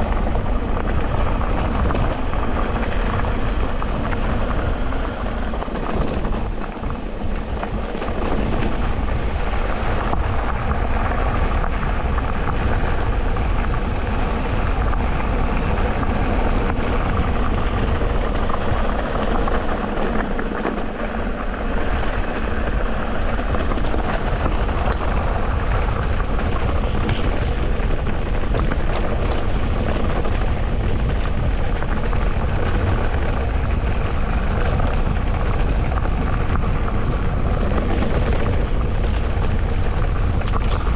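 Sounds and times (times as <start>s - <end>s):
bike tyres rumbling over rough ground: 0.0s - 40.9s.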